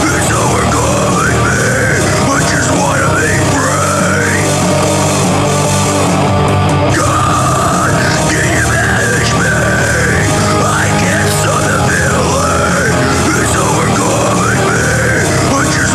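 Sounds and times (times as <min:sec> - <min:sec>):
heavy rock music: 0:00.0 - 0:15.9.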